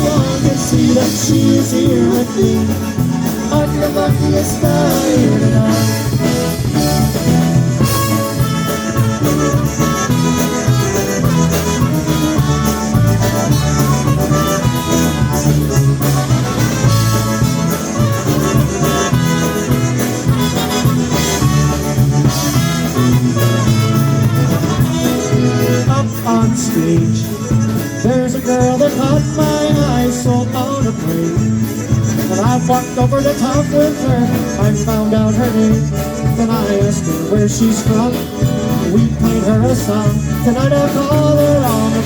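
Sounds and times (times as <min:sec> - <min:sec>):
accordion: 0:00.0 - 0:42.0
bouncing bass beat: 0:00.0 - 0:42.0
polka band playing: 0:00.0 - 0:42.0.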